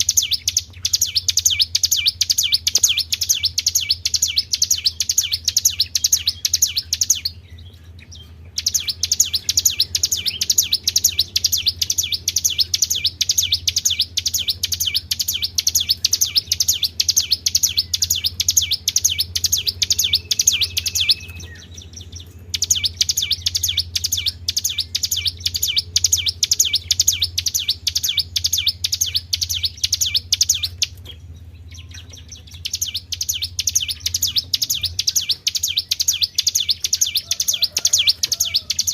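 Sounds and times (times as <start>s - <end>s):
songbird singing: 0.0s - 38.9s
steady low hum: 0.0s - 38.9s.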